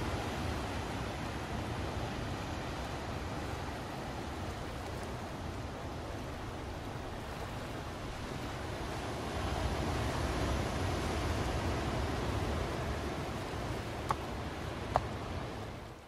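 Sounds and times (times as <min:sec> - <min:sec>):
ocean surf breaking on shore: 0:00.0 - 0:16.0.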